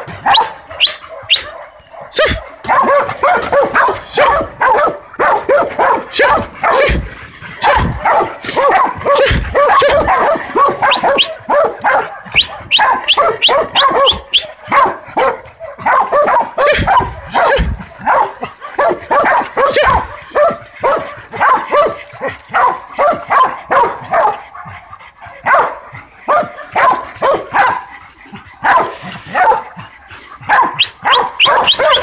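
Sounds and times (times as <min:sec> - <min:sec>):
dogs barking: 0:00.0 - 0:32.0
dogs yelping: 0:00.0 - 0:32.0.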